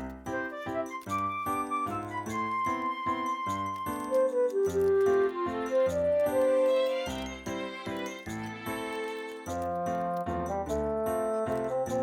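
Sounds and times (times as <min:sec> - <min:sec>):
light instrumental melody: 0:00.0 - 0:12.0.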